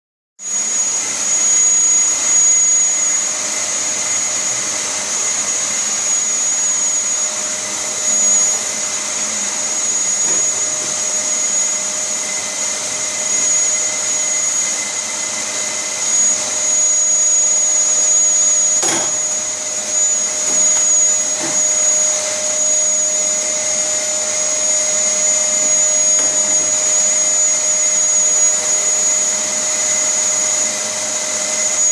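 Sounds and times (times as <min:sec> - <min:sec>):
vacuum cleaner running: 0:00.4 - 0:31.9.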